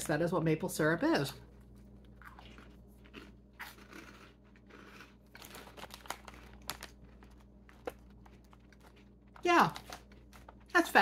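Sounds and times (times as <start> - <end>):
crunchy chewing: 1.6 - 10.7
plastic snack bag crinkling: 1.6 - 11.0.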